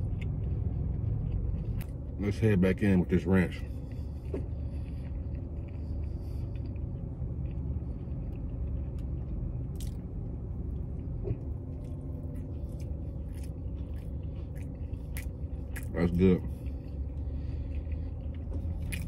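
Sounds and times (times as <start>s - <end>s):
person chewing food: 0.0s - 2.4s, 3.0s - 19.0s
low rumble inside car: 0.0s - 19.0s.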